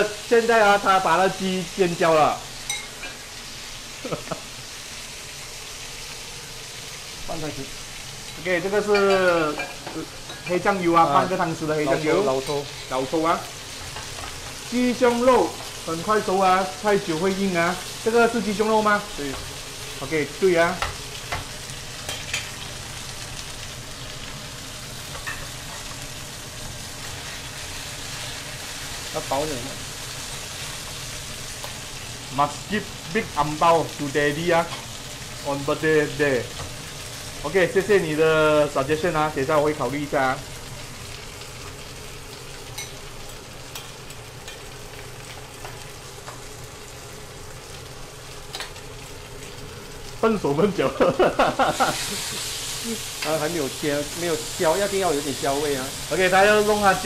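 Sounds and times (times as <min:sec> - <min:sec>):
chicken sizzling in a frying pan: 0:00.0 - 0:57.0.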